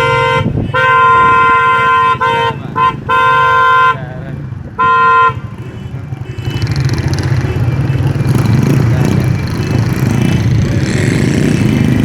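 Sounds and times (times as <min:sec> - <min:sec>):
road and traffic noise: 0:00.0 - 0:12.0
vehicle engines rumbling: 0:00.0 - 0:12.0.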